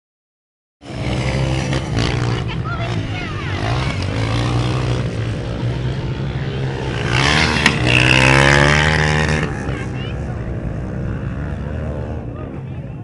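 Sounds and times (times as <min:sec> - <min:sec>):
dirt bike engine revving: 0:00.8 - 0:12.5.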